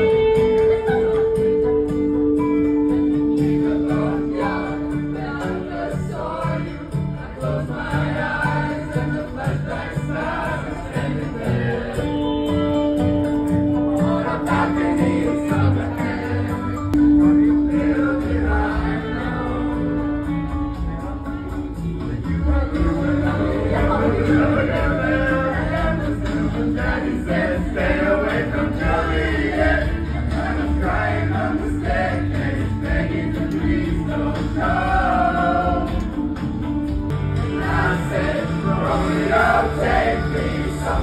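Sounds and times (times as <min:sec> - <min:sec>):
backing track with guitar and beat: 0:00.0 - 0:41.0
group singing karaoke: 0:00.0 - 0:41.0.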